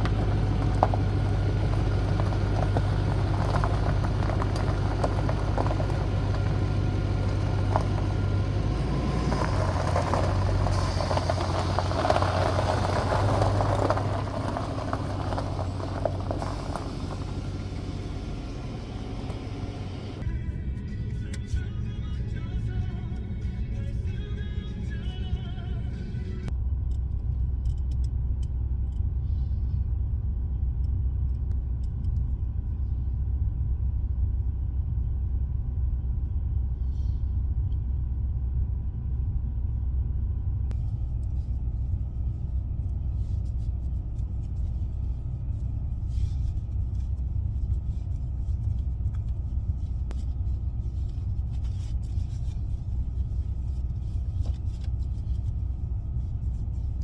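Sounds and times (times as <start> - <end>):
road noise: 0.0 - 57.0
van engine rumble: 0.0 - 57.0.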